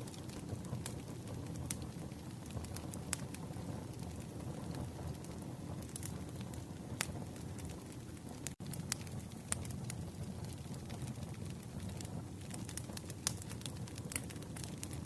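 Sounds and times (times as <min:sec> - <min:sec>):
campfire crackling and popping: 0:00.0 - 0:15.0
low rush of flame: 0:00.0 - 0:15.0.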